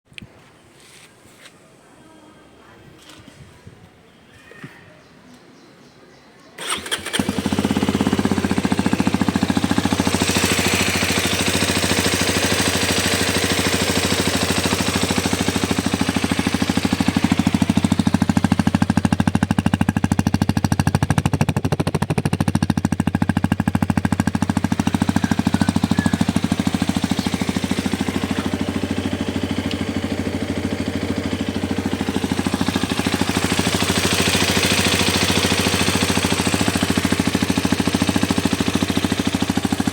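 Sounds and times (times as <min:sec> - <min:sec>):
motorcycle engine knocking: 0:07.2 - 0:39.9.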